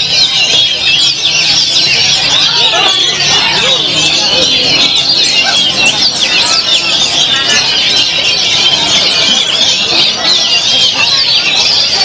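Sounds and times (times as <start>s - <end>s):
birds singing in chorus: 0.0s - 12.0s.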